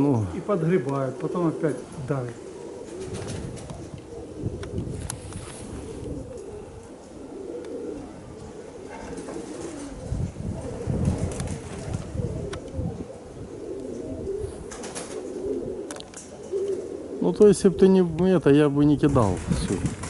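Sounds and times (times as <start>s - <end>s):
pigeons cooing: 0.0s - 20.0s
wind gusts on microphone: 0.4s - 15.9s, 17.1s - 20.0s.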